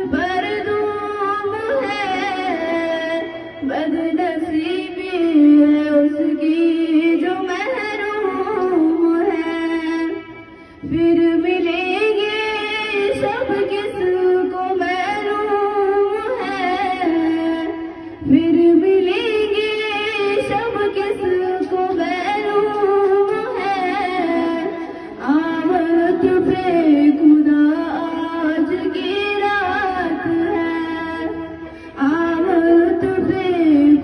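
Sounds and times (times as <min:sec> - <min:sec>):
girl singing into a microphone: 0:00.0 - 0:34.0.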